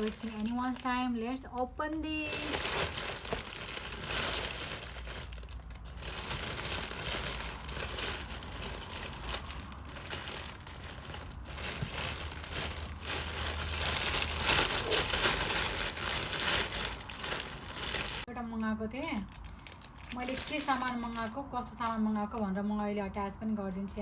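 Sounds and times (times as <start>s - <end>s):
package wrapping crinkling: 0.0s - 18.3s, 19.0s - 22.0s
wrapping tearing: 0.0s - 18.3s, 19.0s - 21.4s.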